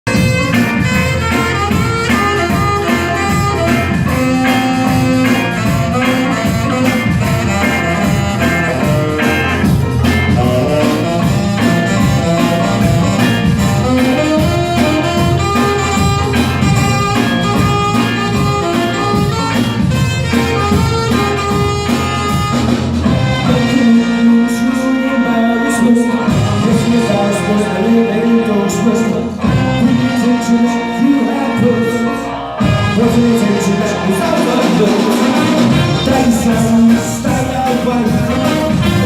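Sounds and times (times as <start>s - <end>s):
steady drum beat: 0.0s - 32.0s, 32.6s - 39.0s
live band playing: 0.0s - 39.0s.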